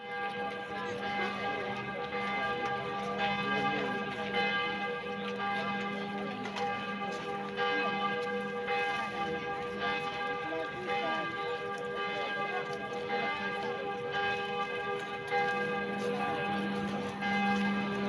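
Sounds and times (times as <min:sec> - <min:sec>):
church bells pealing: 0:00.0 - 0:18.0
crowd chattering faintly: 0:00.1 - 0:18.0.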